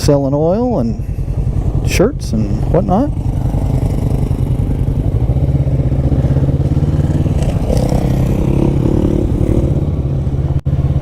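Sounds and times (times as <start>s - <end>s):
motorcycle engine low throb: 0.0s - 11.0s.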